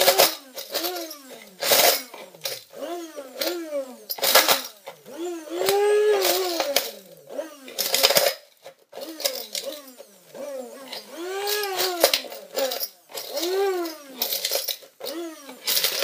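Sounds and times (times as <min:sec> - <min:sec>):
hand blender motor whine: 0:00.0 - 0:08.2, 0:08.9 - 0:16.0
cereal rattling against plastic: 0:00.0 - 0:16.0.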